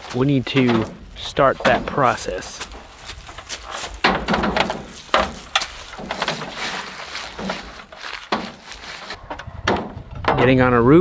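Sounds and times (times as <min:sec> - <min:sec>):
ladder knocking and clanking: 0:00.0 - 0:10.5.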